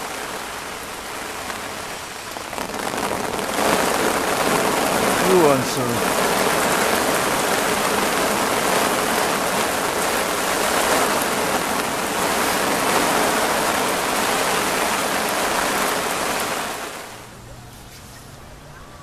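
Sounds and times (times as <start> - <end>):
heavy rain on water: 0.0 - 19.0.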